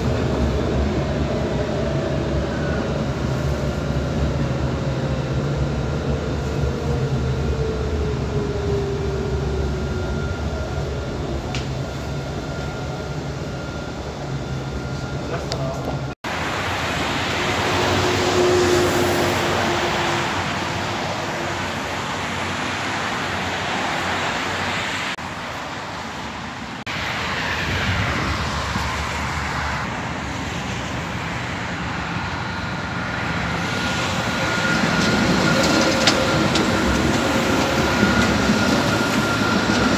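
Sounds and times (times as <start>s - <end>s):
road traffic passing: 0.0s - 39.9s
tram high whine: 0.0s - 39.9s.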